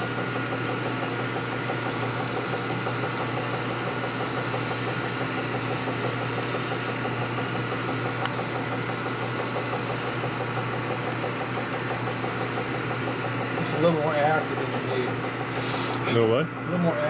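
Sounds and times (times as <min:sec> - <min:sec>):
machine motor running: 0:00.0 - 0:17.0.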